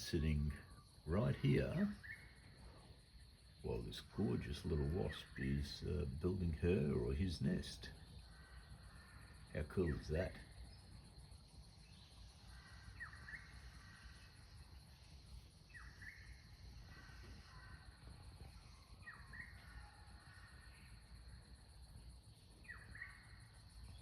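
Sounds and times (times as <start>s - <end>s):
bird calling: 0.0s - 24.0s
high insect trill: 0.0s - 24.0s.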